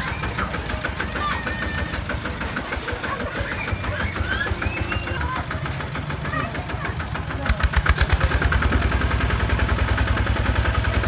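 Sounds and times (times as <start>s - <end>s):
tractor diesel engine chugging: 0.0s - 11.0s.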